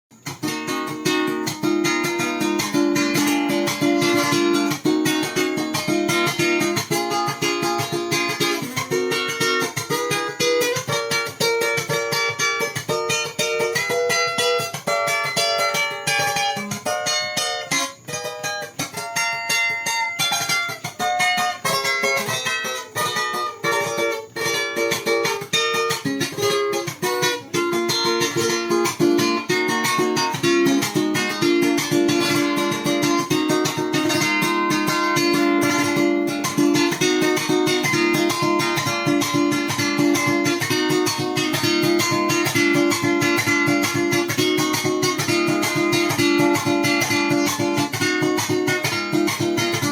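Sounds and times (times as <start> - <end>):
electric guitar playing: 0.1 - 49.9.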